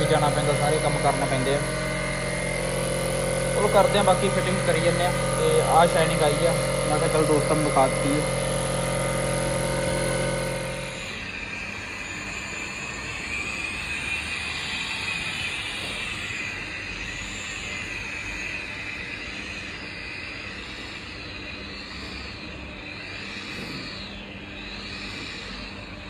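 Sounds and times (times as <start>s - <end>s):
electric polisher motor whine: 0.0s - 26.0s.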